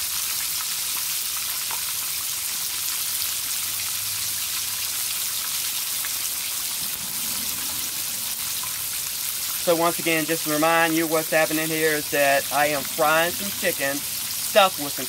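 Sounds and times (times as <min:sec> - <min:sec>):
deep-frying sizzle with crackles: 0:00.0 - 0:15.0.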